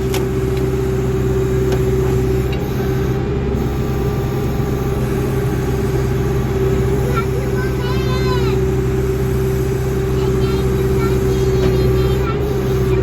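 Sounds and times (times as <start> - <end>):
backhoe engine droning: 0.0 - 13.0.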